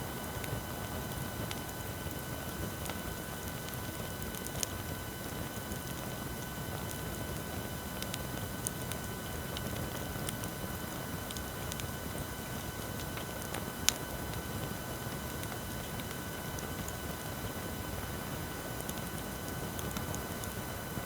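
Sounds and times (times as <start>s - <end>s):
wood bonfire crackling and popping: 0.1s - 21.0s.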